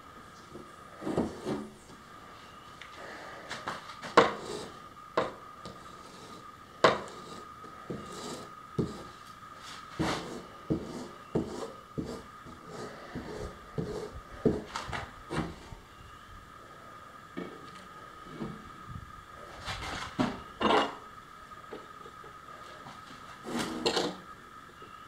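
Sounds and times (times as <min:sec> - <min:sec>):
faint high hum: 0:00.0 - 0:25.0.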